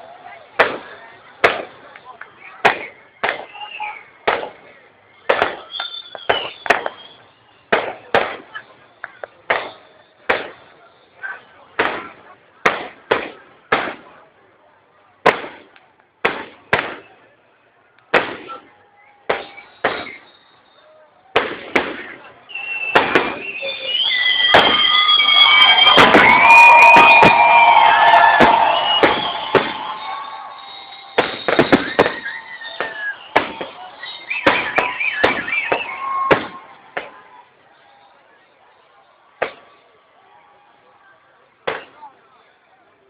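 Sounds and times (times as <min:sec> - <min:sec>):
fireworks bangs: 0:00.3 - 0:14.4, 0:15.2 - 0:17.3, 0:18.1 - 0:38.1, 0:39.3 - 0:39.9, 0:41.6 - 0:42.3.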